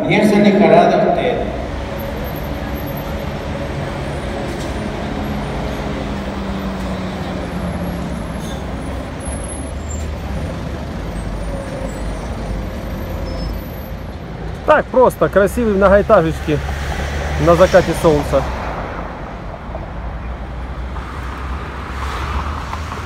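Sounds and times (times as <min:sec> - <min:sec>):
passing vehicle engine rumble: 0:00.0 - 0:23.0
road noise: 0:00.0 - 0:23.0.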